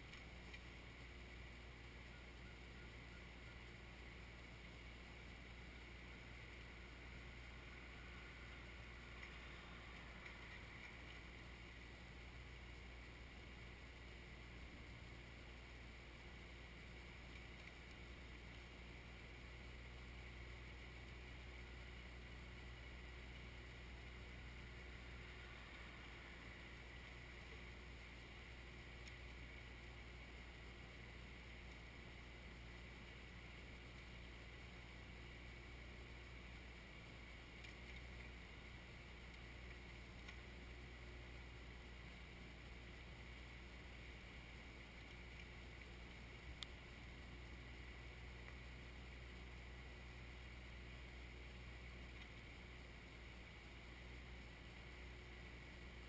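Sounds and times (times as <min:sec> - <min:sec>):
distant tractor engine hum: 0:00.0 - 0:56.0.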